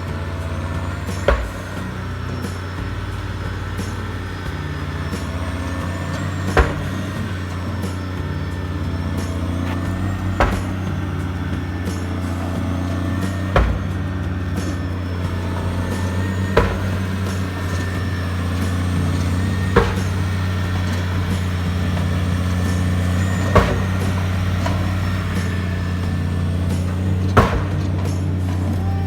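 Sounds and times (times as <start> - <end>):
machinery droning: 0.0 - 29.0
sharp knocks: 0.0 - 29.0.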